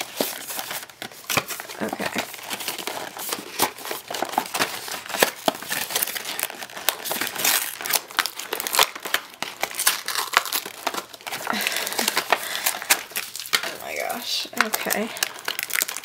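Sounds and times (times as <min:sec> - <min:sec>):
cardboard being torn apart: 0:00.0 - 0:13.7.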